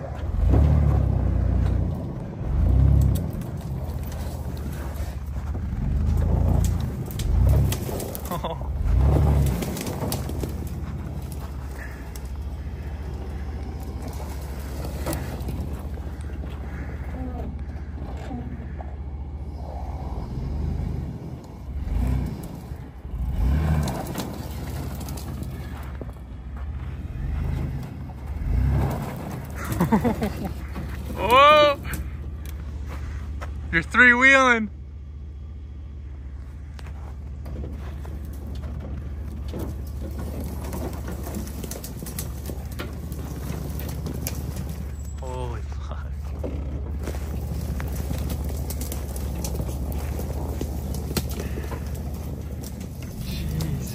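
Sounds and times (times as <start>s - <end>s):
suspension knocks and rattles: 0.0s - 19.4s, 20.5s - 33.7s, 35.4s - 53.9s
truck engine running at low revs: 0.0s - 53.9s.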